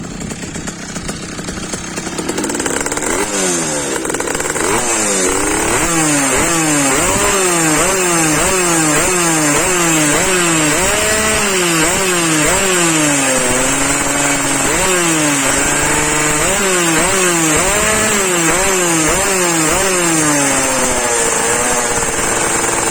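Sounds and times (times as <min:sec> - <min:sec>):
moped engine revving: 0:00.0 - 0:22.9.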